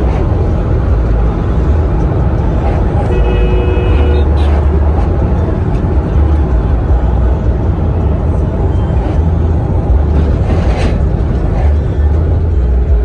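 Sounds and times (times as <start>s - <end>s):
heavy low vehicle rumble: 0.0s - 13.0s
road noise hiss: 0.0s - 13.0s.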